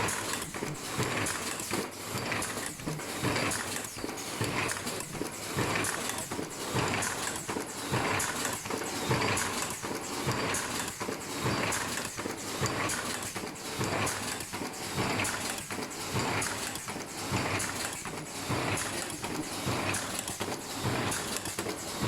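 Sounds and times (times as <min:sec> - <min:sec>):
welding machine clatter: 0:00.0 - 0:22.0.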